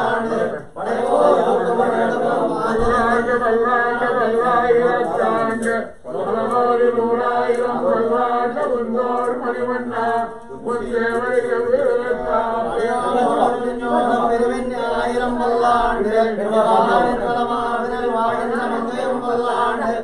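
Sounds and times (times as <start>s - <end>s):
male voices chanting: 0.0s - 20.0s.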